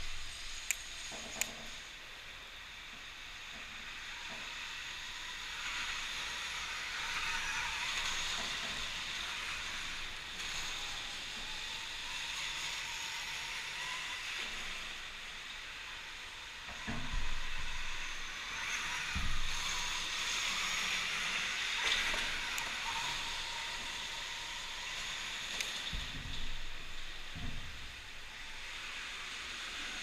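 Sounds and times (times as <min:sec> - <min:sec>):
electric dirt bikes hissing: 0:00.0 - 0:01.9, 0:02.5 - 0:30.0
faint high whine: 0:00.0 - 0:30.0.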